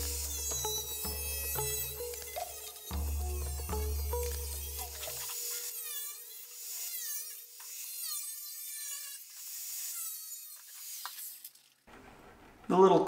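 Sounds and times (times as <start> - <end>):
angle grinder cutting metal: 0.0 - 11.8.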